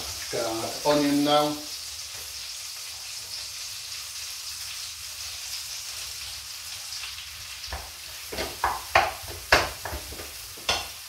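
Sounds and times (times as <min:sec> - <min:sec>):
onion sizzling in a frying pan: 0:00.0 - 0:11.0.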